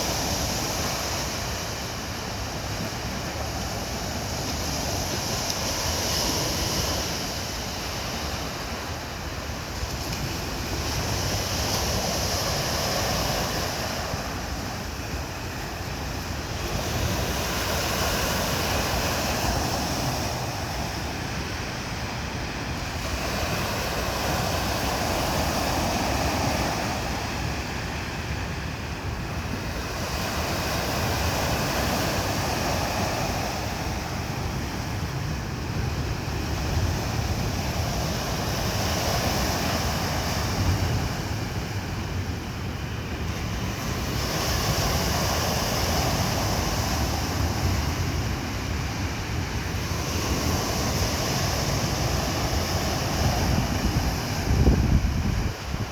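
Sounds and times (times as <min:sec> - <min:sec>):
sea waves washing up: 0:00.0 - 0:55.9.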